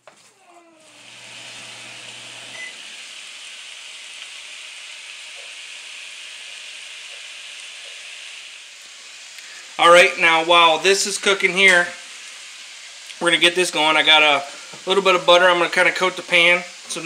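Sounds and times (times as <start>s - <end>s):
meat sizzling in a frying pan: 0.9s - 17.0s.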